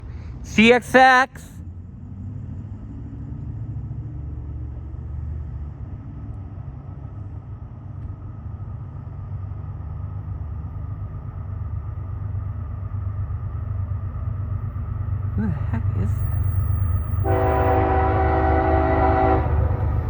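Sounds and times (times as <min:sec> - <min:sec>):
distant freight train rumble: 0:00.0 - 0:20.0.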